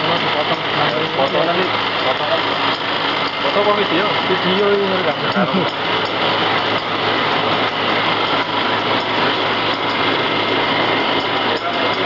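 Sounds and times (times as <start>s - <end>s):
small machine humming: 0.0s - 12.0s.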